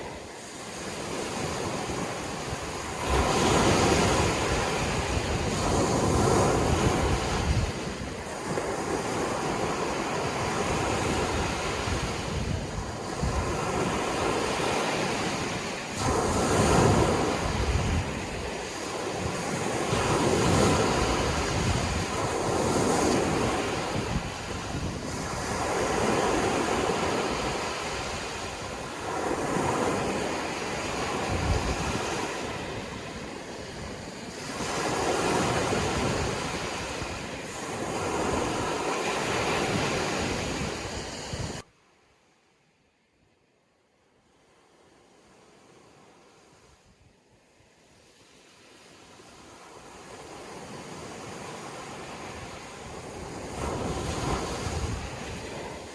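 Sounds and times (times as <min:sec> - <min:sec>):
sea waves breaking on shore: 0:00.0 - 0:41.7, 0:44.3 - 0:55.9.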